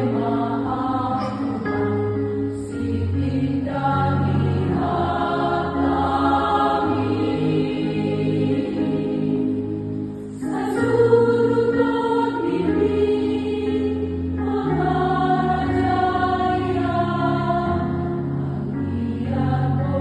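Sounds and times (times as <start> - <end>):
women's choir singing a hymn: 0.0 - 20.0.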